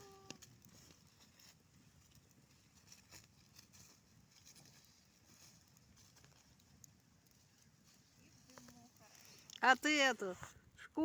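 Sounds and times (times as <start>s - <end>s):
faint campfire crackling: 0.0s - 11.0s.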